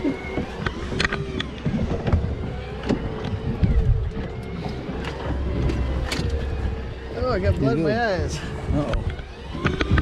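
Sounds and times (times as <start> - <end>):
boat motor rumbling: 0.0 - 10.0.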